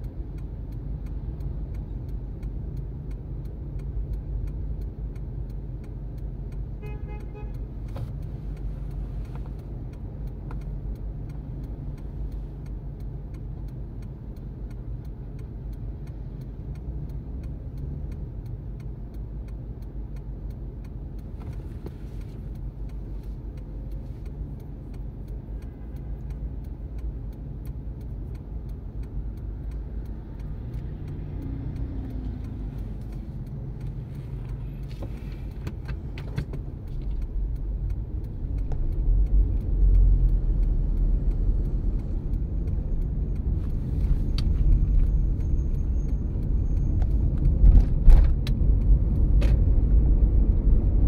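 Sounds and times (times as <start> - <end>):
low rumble of traffic: 0.0 - 51.0
turn signal ticking: 0.0 - 51.0.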